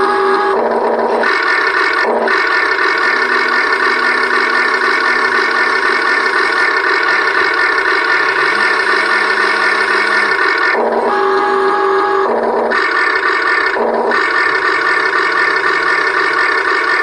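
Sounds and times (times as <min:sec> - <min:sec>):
synthetic engine drone: 0:00.0 - 0:17.0
toy sound effect: 0:00.0 - 0:17.0.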